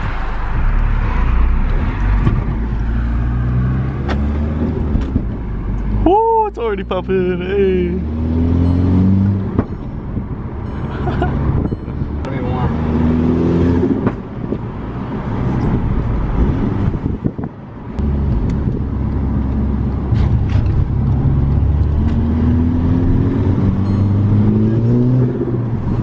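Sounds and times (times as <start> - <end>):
car engine under hard driving: 0.0 - 6.1, 6.9 - 26.0.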